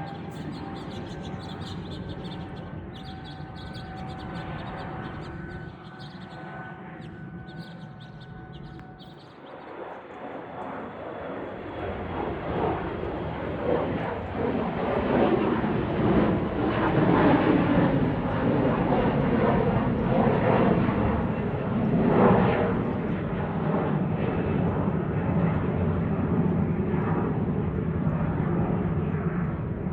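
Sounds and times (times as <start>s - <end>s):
airplane engine taking off: 0.0s - 29.9s.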